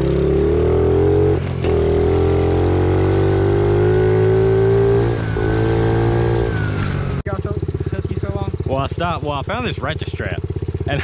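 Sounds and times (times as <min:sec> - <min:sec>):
pit bike engine revving: 0:00.0 - 0:11.0.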